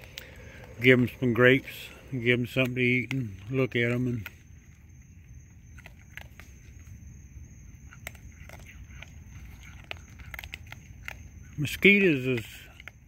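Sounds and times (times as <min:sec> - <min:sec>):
raccoons crunching kibble: 0:00.0 - 0:13.0.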